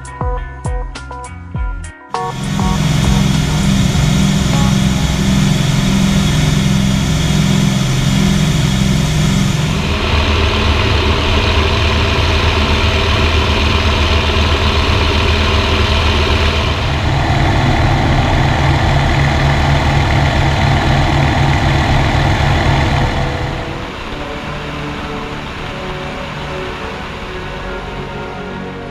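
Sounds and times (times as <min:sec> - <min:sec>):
piston engine drone in cockpit: 0:02.2 - 0:28.9.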